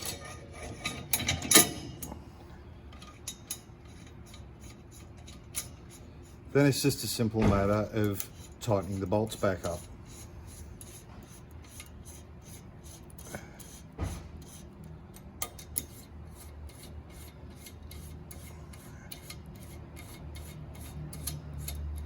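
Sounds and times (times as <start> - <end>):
metal-on-metal scraping and ticking: 0.0 - 2.2, 2.9 - 6.6, 7.7 - 22.0.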